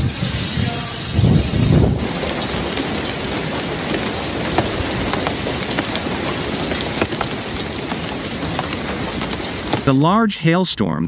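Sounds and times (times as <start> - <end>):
hail and rain falling: 0.0 - 10.2
hailstones striking cars: 0.0 - 10.2.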